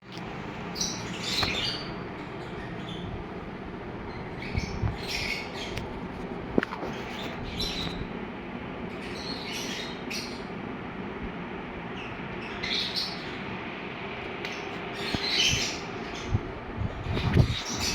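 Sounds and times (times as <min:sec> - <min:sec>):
background hum: 0:00.0 - 0:17.9
birds squawking and chirping: 0:00.6 - 0:06.0, 0:06.7 - 0:08.2, 0:08.8 - 0:10.6, 0:11.9 - 0:17.9.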